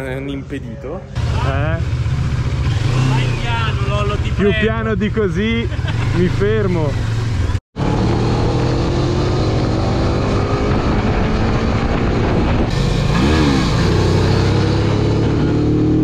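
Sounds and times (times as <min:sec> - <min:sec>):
wind and road noise: 0:00.0 - 0:16.0
motorcycle engine cruising: 0:01.1 - 0:16.0.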